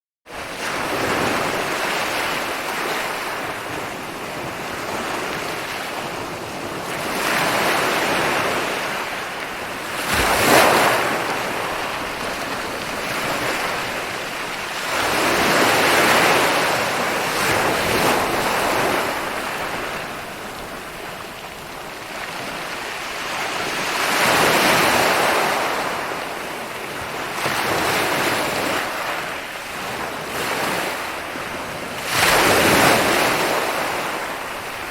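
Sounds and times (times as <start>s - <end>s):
sea waves breaking on shore: 0.3s - 34.9s.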